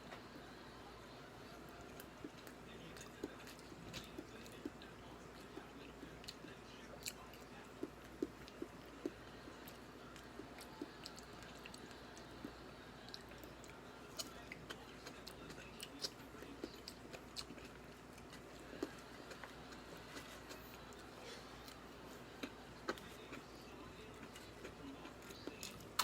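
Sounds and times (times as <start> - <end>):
person chewing food: 1.7 - 26.0
food crunch: 1.9 - 26.0.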